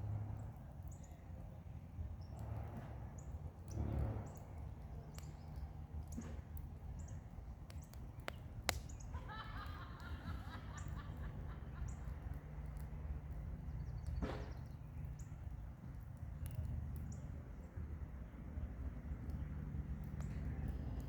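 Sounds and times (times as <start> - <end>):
campfire crackling and popping: 0.1 - 21.0.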